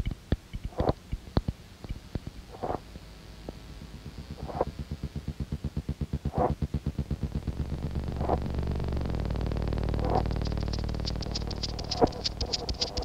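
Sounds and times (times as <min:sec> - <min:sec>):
low electronic pulses and drone: 0:01.8 - 0:13.0.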